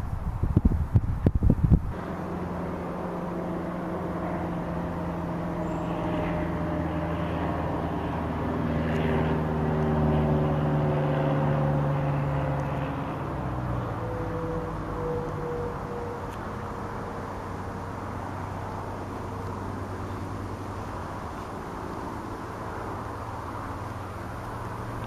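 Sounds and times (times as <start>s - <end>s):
distant engine hum: 0.0s - 25.0s.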